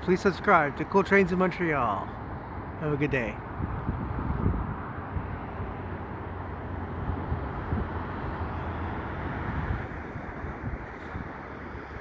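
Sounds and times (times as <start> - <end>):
distant vehicle traffic rumble: 0.0 - 12.0
wind buffeting microphone: 0.0 - 12.0.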